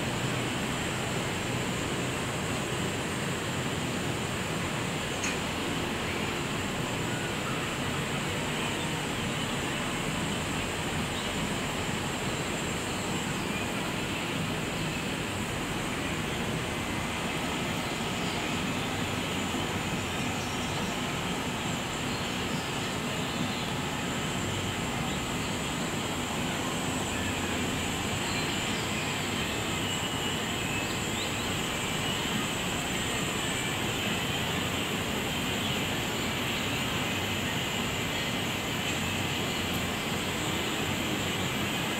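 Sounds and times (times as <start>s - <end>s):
outdoor rumble and hiss: 0.0s - 41.9s.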